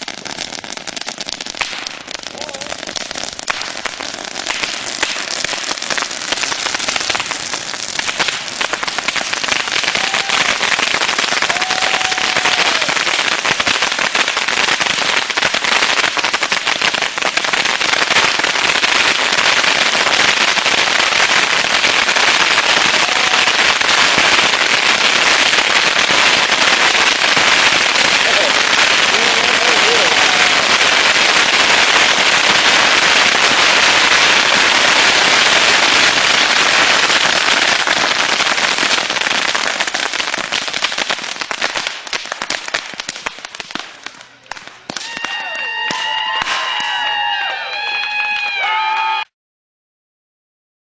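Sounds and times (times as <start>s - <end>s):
bottle rockets crackling: 0.0s - 46.8s.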